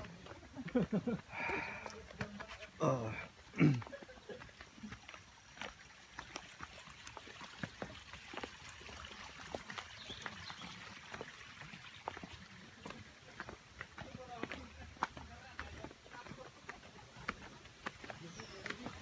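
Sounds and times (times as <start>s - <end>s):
stream water running: 0.0s - 19.0s.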